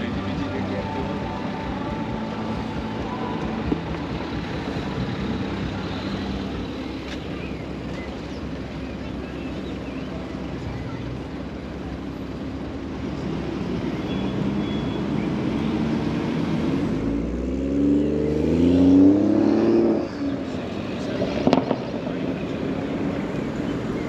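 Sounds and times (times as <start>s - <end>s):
traffic hum: 0.0s - 24.0s
vehicle engine accelerating: 0.0s - 24.0s.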